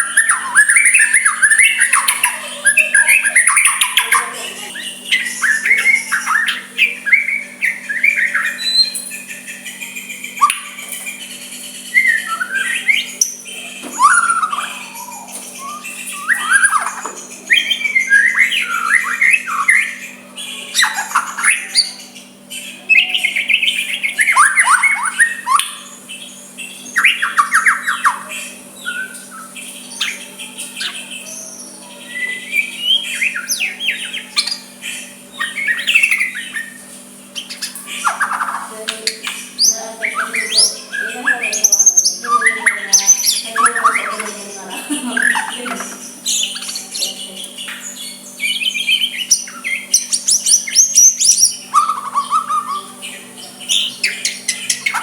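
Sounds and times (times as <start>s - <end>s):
bird singing whistles and squawks: 0.0s - 44.4s, 45.0s - 55.0s.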